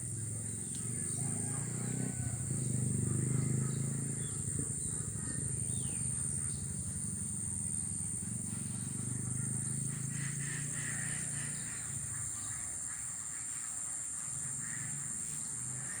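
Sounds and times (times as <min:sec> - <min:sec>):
low steady rumble: 0:00.0 - 0:13.3
high-pitched insect drone: 0:00.0 - 0:16.0.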